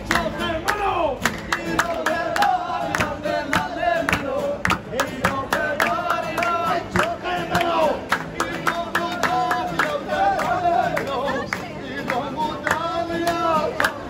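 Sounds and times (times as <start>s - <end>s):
acoustic guitars: 0.0s - 14.0s
crowd clapping in rhythm: 0.0s - 14.0s
crowd singing along: 0.0s - 14.0s
street musicians singing: 0.0s - 14.0s.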